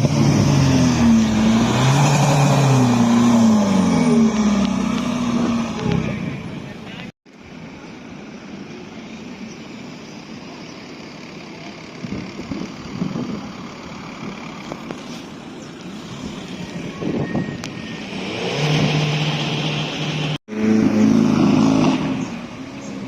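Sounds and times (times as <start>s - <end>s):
car engines passing: 0.0s - 23.0s.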